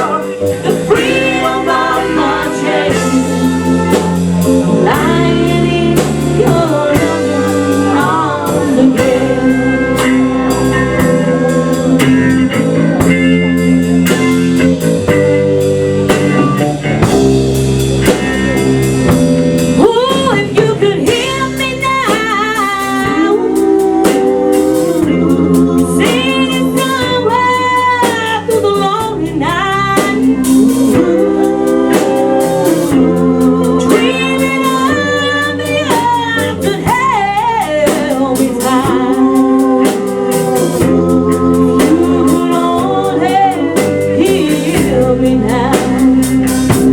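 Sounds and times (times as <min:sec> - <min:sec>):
lead singer singing: 0:00.0 - 0:15.2, 0:19.6 - 0:46.9
bass guitar: 0:00.0 - 0:46.9
drum kit beat: 0:00.0 - 0:46.9
electric guitar: 0:00.0 - 0:46.9.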